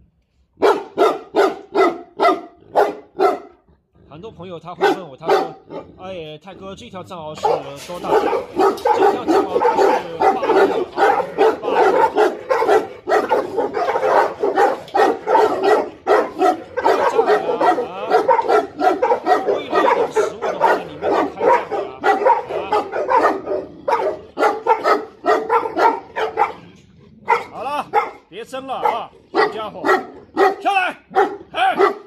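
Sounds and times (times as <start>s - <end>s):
dogs barking: 0.6s - 3.7s, 4.7s - 6.1s, 7.4s - 32.0s.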